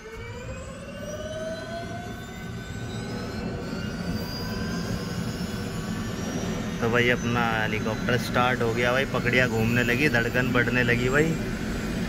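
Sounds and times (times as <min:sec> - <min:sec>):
helicopter engine whine: 0:00.0 - 0:12.0.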